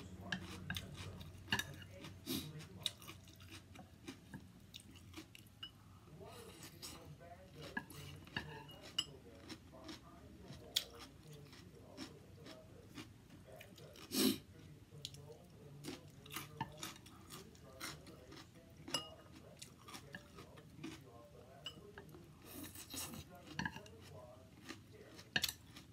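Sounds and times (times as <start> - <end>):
person chewing food: 0.0 - 25.9.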